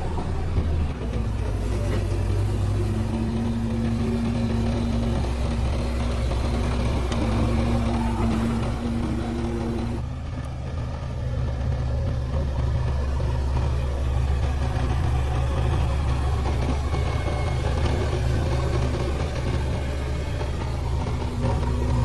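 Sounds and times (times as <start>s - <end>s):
backhoe diesel engine running: 0.0s - 22.0s.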